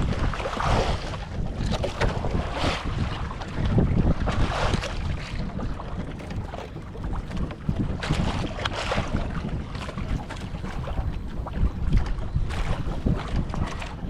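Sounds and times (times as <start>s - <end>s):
wind gusting over microphone: 0.0s - 14.0s.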